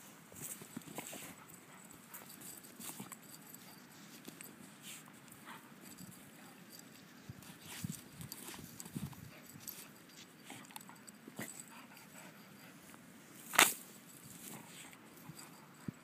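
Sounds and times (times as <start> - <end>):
dog paws digging in sand: 0.1 - 16.0.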